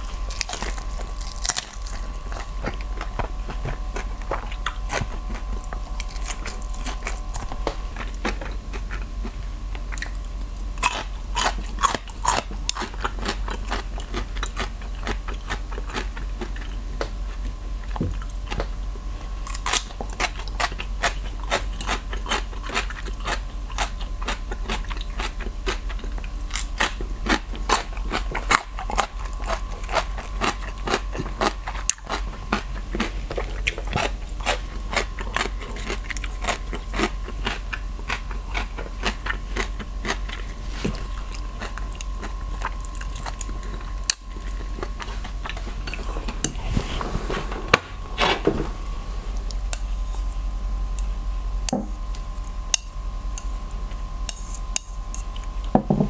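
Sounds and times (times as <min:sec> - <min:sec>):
chewing crunchy food: 0:00.0 - 0:46.7, 0:49.3 - 0:55.8.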